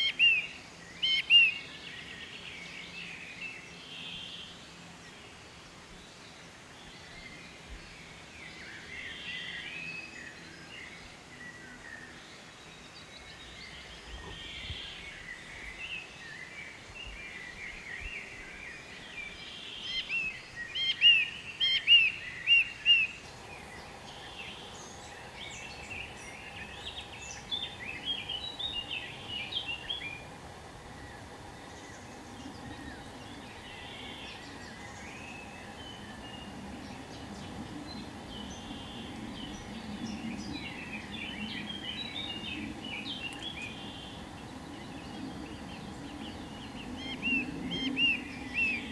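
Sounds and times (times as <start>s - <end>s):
background hiss: 0.0s - 48.9s
small birds chirping and singing: 0.0s - 48.9s.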